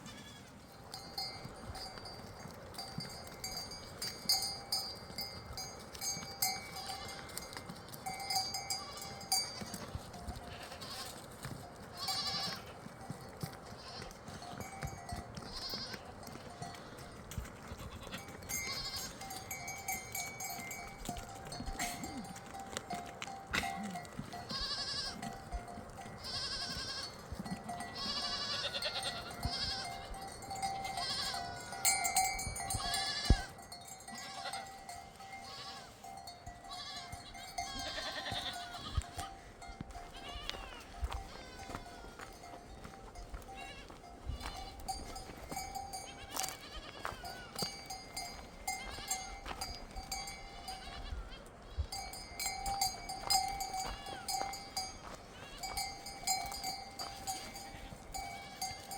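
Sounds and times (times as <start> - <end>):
livestock bells clinking: 0.0 - 58.9
sheep and goats bleating: 0.0 - 58.9.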